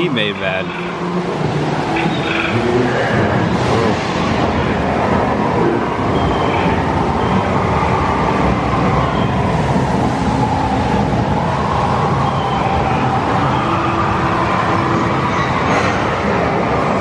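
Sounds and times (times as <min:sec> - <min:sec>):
rushing water and ride effects din: 0:00.0 - 0:17.0.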